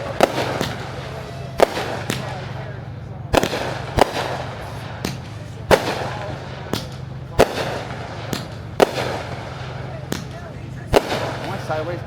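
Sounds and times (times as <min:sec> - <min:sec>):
fireworks bangs and crackling: 0:00.0 - 0:12.0
steady low hum: 0:00.0 - 0:12.0.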